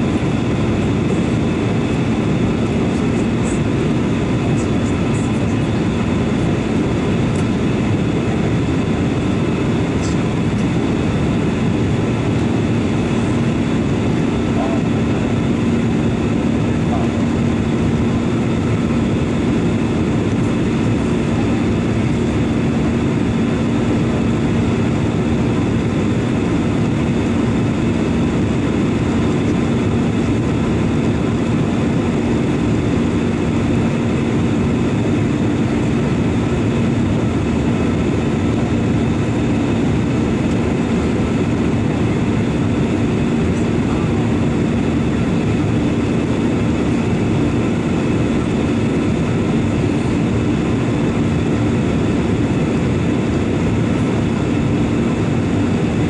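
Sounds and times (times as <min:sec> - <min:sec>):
airflow roar: 0:00.0 - 0:56.0
constant low hum: 0:00.0 - 0:56.0
jet engine drone: 0:00.0 - 0:56.0.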